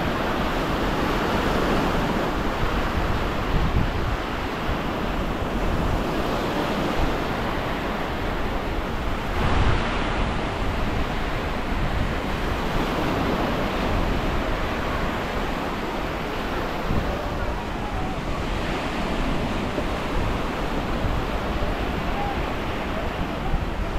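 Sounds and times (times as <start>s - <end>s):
small waves washing onto beach: 0.0s - 23.9s
wind buffeting microphone: 0.0s - 23.9s.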